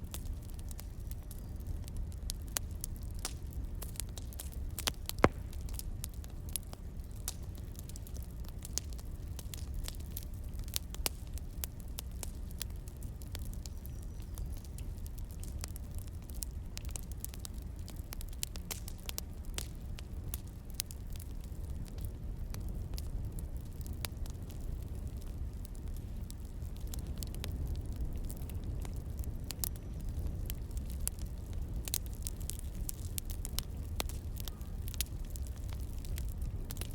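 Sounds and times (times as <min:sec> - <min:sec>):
fire popping and snapping: 0:00.0 - 0:36.9
wood fire crackling: 0:00.0 - 0:36.9.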